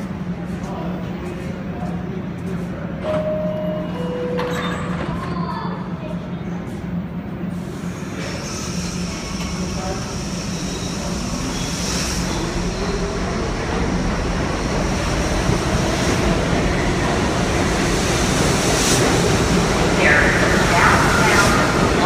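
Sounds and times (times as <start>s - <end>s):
subway train accelerating: 0.0s - 22.0s.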